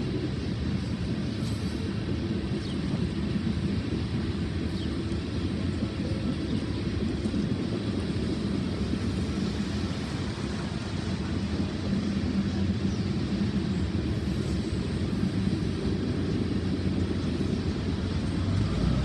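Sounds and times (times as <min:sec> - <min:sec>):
freight train cars rolling on rails: 0:00.0 - 0:19.0.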